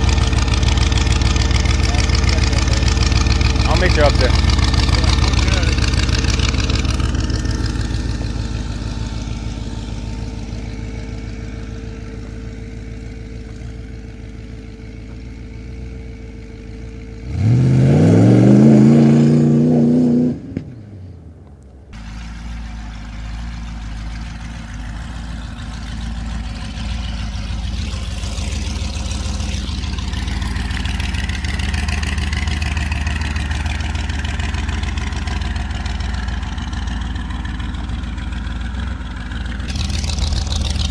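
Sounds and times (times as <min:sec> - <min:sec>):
motorcycle engine revving: 0:00.0 - 0:15.1, 0:16.0 - 0:20.7, 0:22.0 - 0:40.9
steady engine drone: 0:00.0 - 0:20.5, 0:21.9 - 0:40.9.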